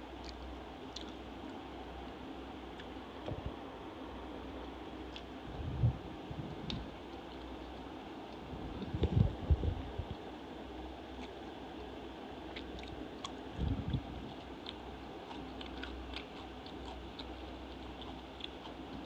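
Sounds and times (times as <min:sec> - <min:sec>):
crunchy chewing: 0:00.0 - 0:03.2, 0:04.5 - 0:09.4, 0:10.0 - 0:19.0.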